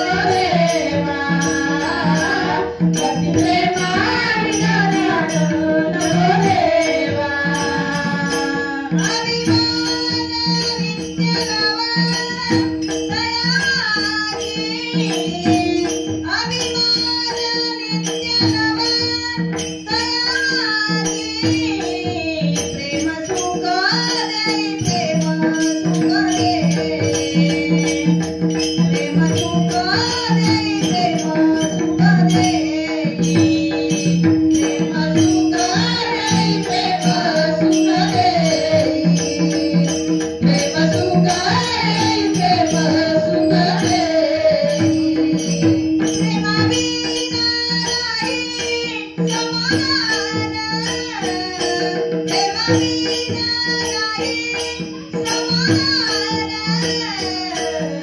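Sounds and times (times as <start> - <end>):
jingling percussion: 0.0 - 58.0
person singing devotional song: 0.0 - 58.0.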